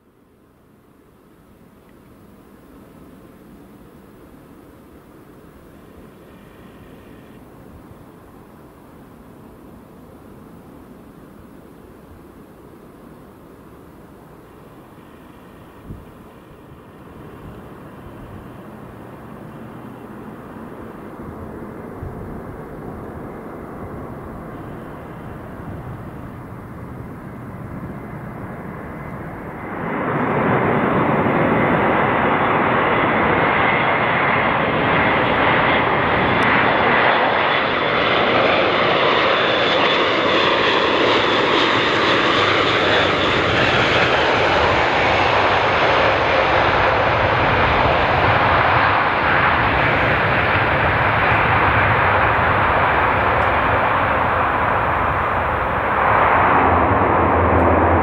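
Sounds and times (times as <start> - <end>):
turboprop engines: 1.2 - 58.0.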